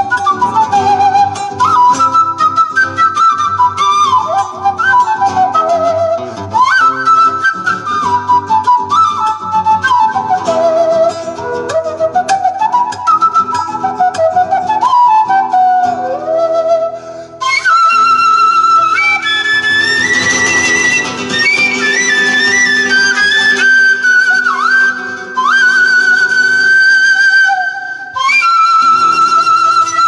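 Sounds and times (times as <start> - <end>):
flute melody: 0.0 - 30.0
plucked guitar: 0.0 - 30.0.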